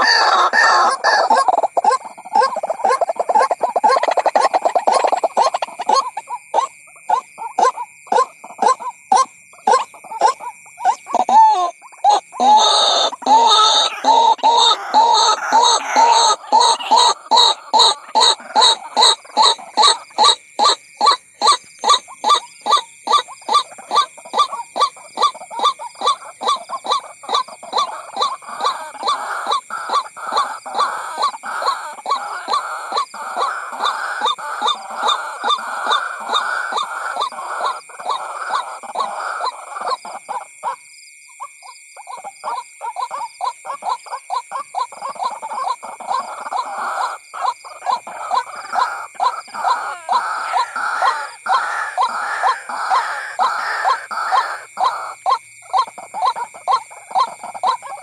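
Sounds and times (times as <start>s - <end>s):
waterhen calling: 0.0s - 40.8s, 42.0s - 58.0s.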